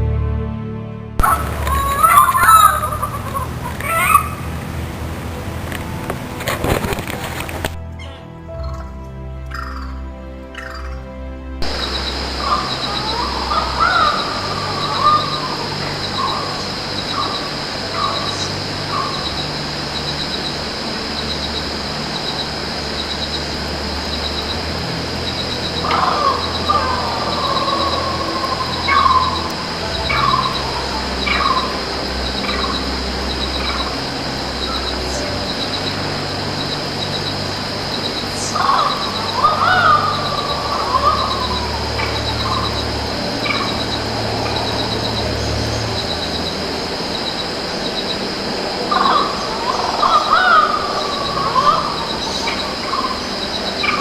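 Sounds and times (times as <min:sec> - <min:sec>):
birds calling with falling notes: 0:01.2 - 0:54.0
steady high buzz: 0:10.6 - 0:54.0.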